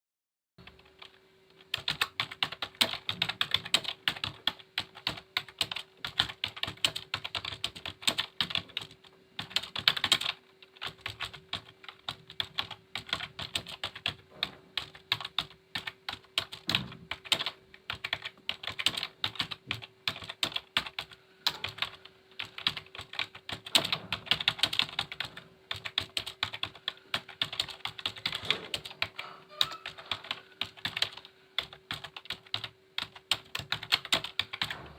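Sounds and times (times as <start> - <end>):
computer keyboard typing: 0.6 - 34.9
faint steady hum: 0.6 - 34.9.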